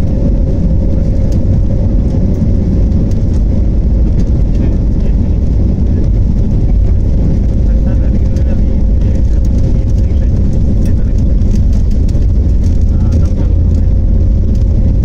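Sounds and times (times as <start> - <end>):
jet engine whine: 0.0 - 15.0
jet engines and wheels rumbling: 0.0 - 15.0.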